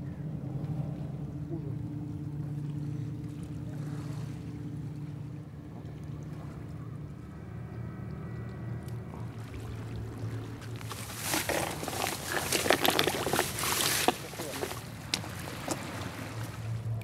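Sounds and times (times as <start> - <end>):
low motor drone: 0.0 - 17.0.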